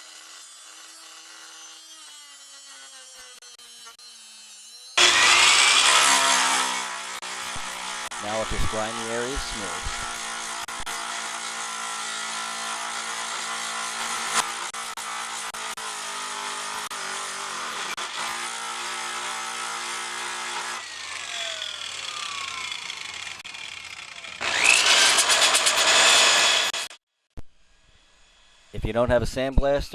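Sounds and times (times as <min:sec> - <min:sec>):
electric grinder grinding steel: 0:00.0 - 0:27.0, 0:27.6 - 0:28.8
power tool spinning up whine: 0:00.0 - 0:27.0.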